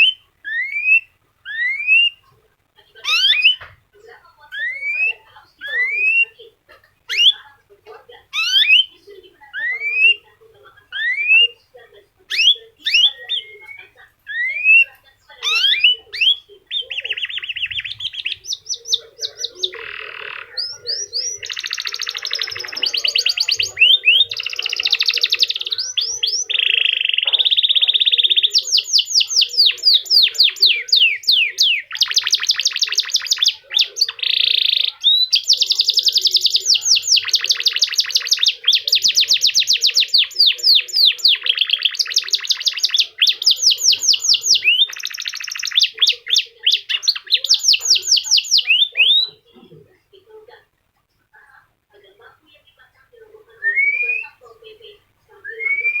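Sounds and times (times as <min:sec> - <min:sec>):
canary singing trills: 0:00.0 - 0:50.6, 0:52.0 - 0:56.0.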